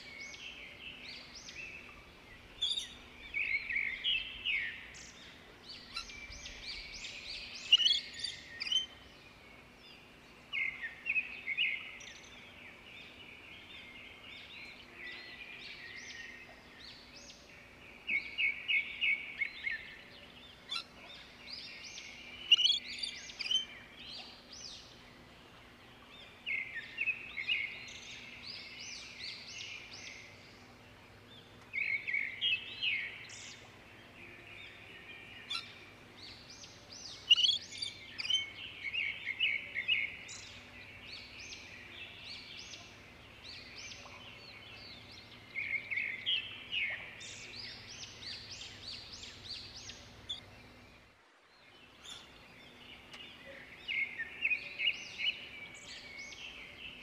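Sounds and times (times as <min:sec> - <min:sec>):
faint steady background noise: 0:00.0 - 0:57.0.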